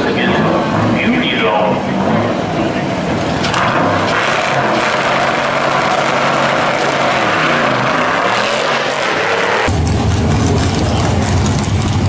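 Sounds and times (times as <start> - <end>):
drag-racing car engines droning: 0.0 - 12.0.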